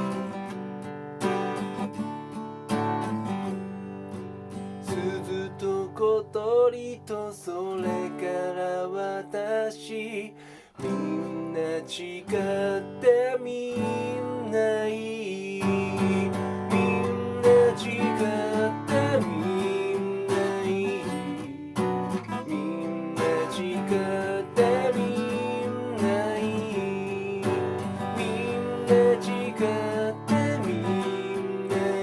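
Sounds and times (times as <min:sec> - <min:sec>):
acoustic guitar strummed and picked: 0:00.0 - 0:32.0.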